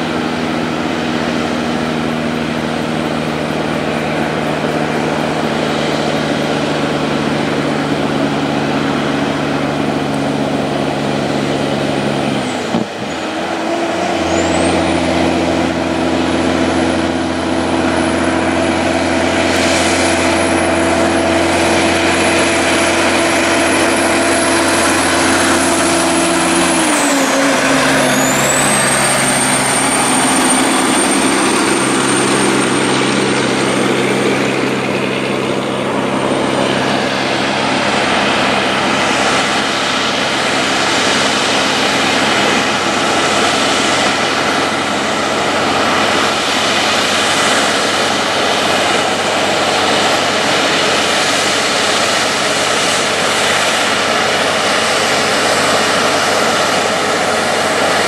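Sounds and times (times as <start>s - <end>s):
diesel truck engines labouring uphill: 0.0s - 58.0s.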